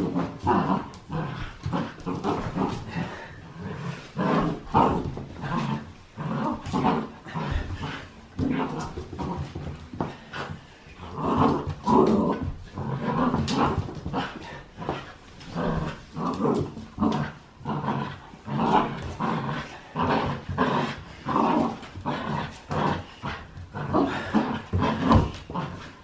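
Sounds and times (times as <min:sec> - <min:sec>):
puppy growling: 0:00.0 - 0:26.0.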